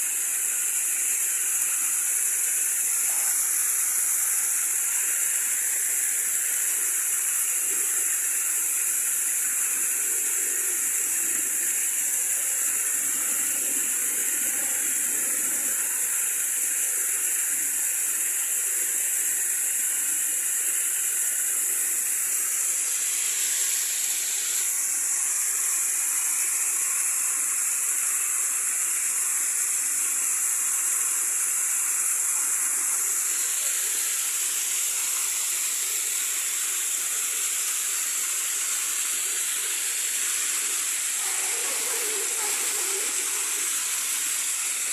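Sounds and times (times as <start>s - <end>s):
running water: 0.0s - 44.9s.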